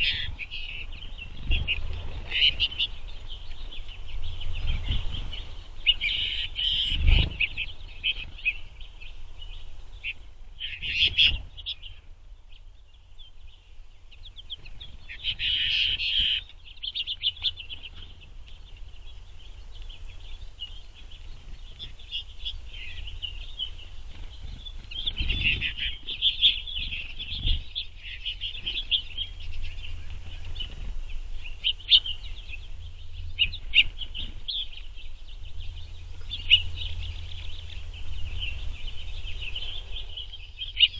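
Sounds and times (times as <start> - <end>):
finches twittering and chirping: 0.0 - 40.9.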